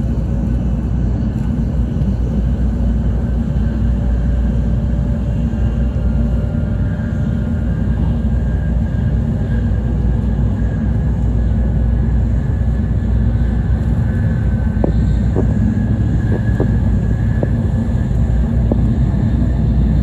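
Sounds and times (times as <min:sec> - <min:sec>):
train cabin rumble: 0:00.0 - 0:20.0.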